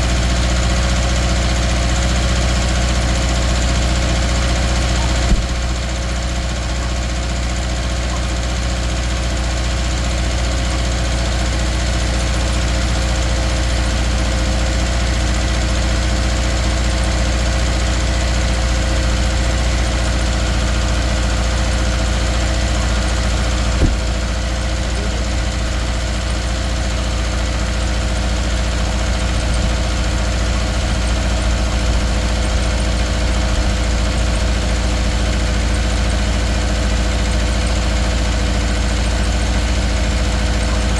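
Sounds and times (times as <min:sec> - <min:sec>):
car engine idling with misfire: 0:00.0 - 0:40.9.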